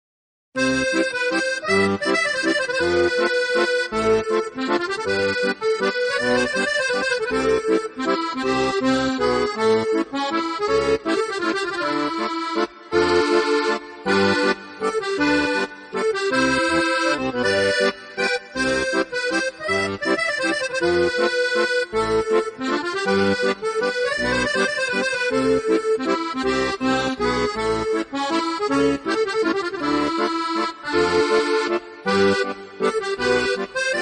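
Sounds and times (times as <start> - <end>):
sustained melody: 0.6 - 34.0.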